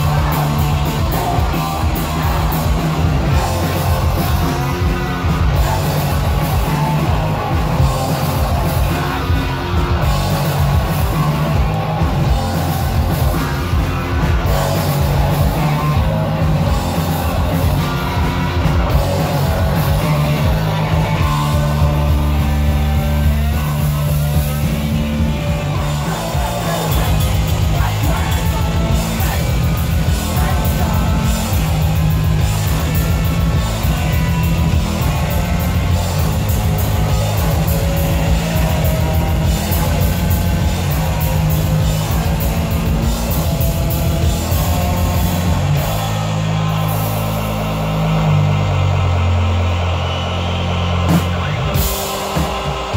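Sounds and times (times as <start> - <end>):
bass guitar: 0.0 - 52.9
distorted electric guitar: 0.0 - 52.9
drum kit rapid beats: 0.0 - 52.9.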